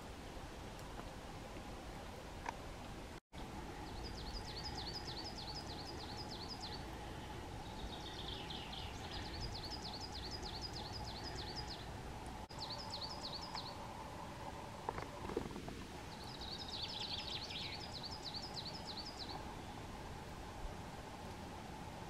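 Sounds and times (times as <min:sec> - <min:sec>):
outdoor background hiss: 0:00.0 - 0:22.0
songbird singing: 0:03.4 - 0:22.0.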